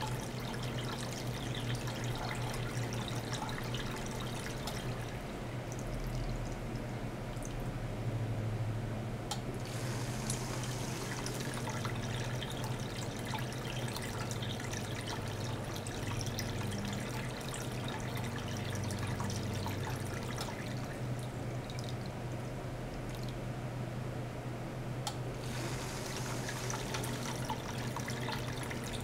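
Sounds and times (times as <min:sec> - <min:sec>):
small pump humming: 0:00.0 - 0:29.0.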